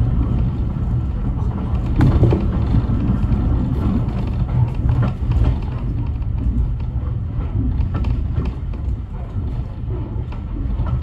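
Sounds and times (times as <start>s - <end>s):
train carriage wheels rumbling on track: 0.0s - 11.0s.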